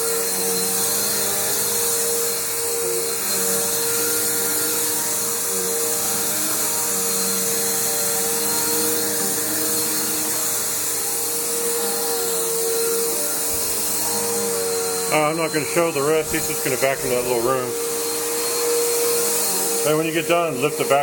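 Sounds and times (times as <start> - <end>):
upright vacuum cleaner on carpet: 0.0 - 21.0.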